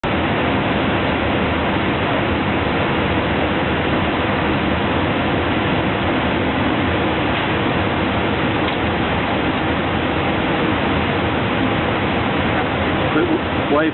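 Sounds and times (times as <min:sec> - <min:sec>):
steady rushing noise in cockpit: 0:00.0 - 0:13.9.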